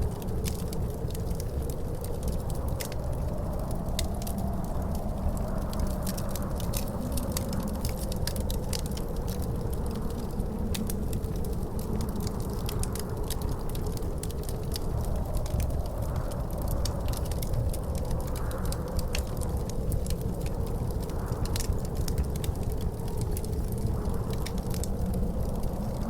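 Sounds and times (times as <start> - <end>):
low wind rumble with howl: 0.0 - 26.0
wood fire crackling and popping: 0.0 - 26.0.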